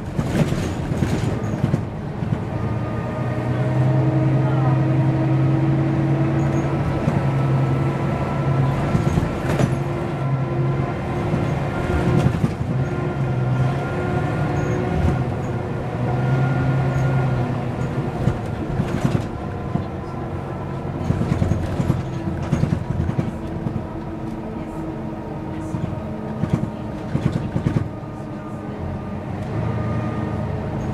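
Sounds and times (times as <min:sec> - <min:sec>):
bus diesel engine humming: 0:00.0 - 0:30.9.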